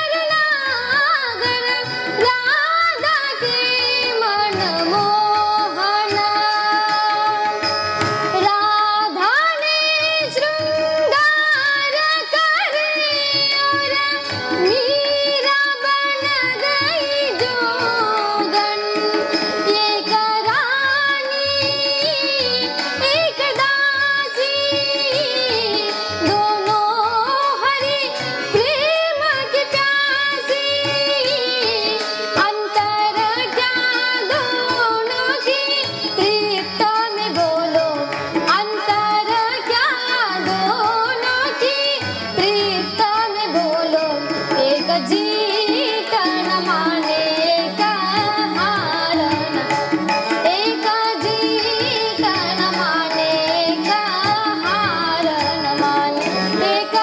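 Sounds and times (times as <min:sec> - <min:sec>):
girl singing: 0:00.0 - 0:07.4, 0:08.4 - 0:49.7, 0:50.4 - 0:57.0
harmonium drone: 0:00.0 - 0:57.0
tabla strokes: 0:00.0 - 0:57.0.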